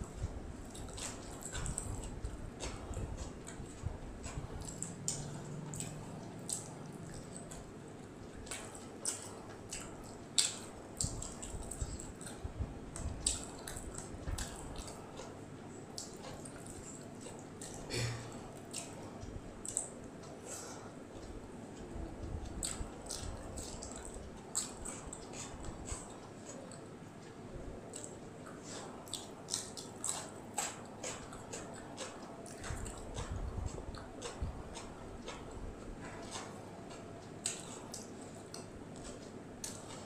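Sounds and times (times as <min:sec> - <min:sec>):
chewing with wet mouth smacks: 0:00.0 - 0:40.0.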